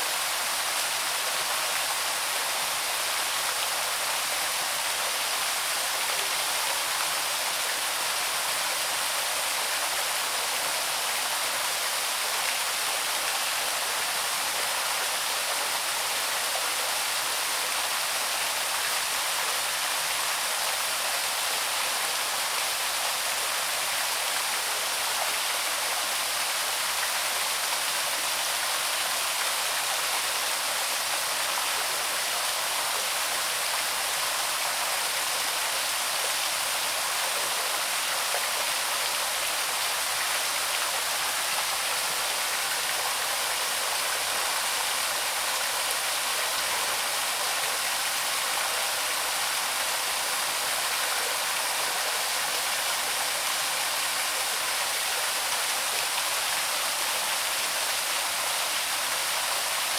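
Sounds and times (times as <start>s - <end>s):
waterfall pouring over rocks: 0.0s - 59.9s.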